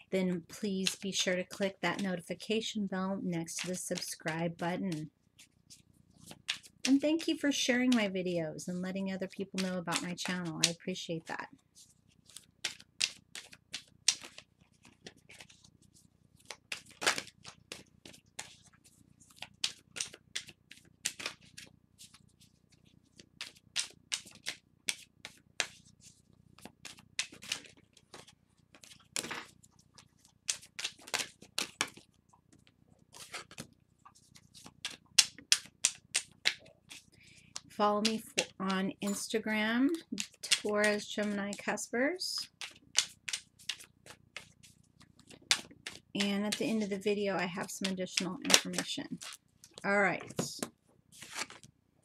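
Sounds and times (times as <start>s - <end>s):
cards being shuffled by hand: 0.8s - 2.2s, 3.4s - 41.8s, 42.4s - 51.7s.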